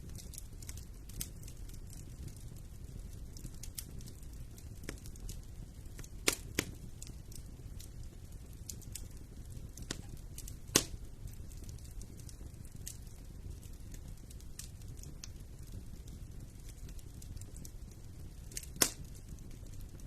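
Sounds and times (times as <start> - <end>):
fire crackling in fireplace: 0.0 - 20.0
sharp pops from fire: 0.0 - 20.0.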